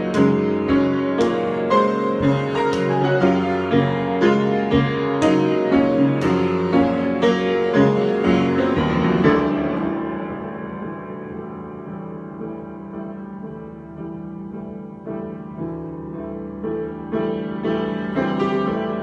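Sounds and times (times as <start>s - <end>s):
solo piano: 0.0s - 19.0s.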